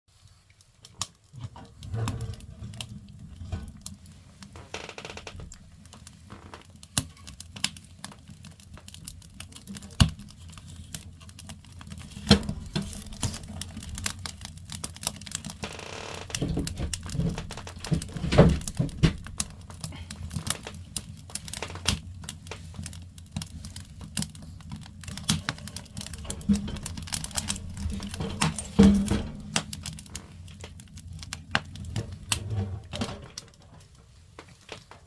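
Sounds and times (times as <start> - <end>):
firewood crackling: 0.1 - 35.0.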